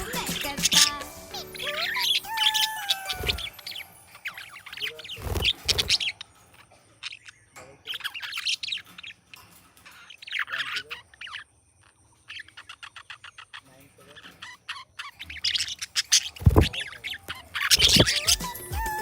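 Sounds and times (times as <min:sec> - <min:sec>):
budgerigar chirping and warbling: 0:00.0 - 0:19.0.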